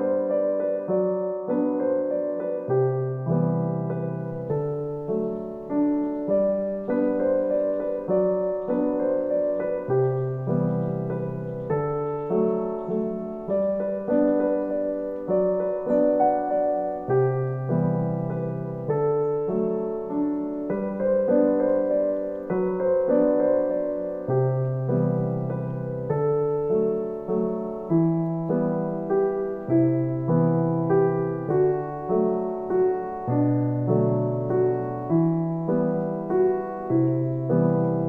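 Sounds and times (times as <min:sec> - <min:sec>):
gentle piano music: 0:00.0 - 0:38.0.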